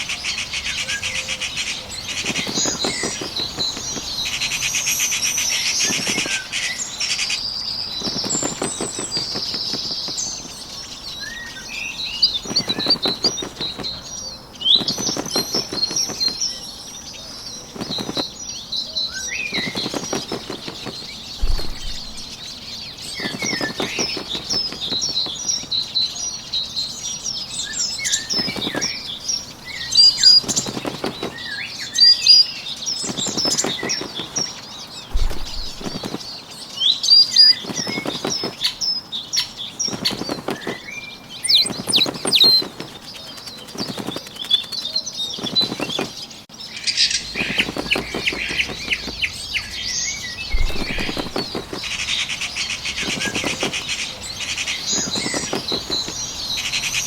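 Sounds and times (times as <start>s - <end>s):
bird wingbeats fluttering: 0.0s - 57.0s
songbirds chirping: 0.0s - 57.0s.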